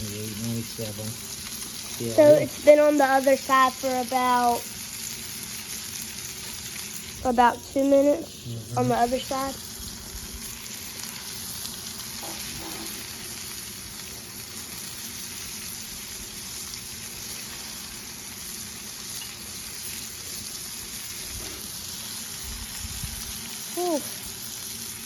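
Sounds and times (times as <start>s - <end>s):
steaks sizzling on griddle: 0.0s - 25.0s.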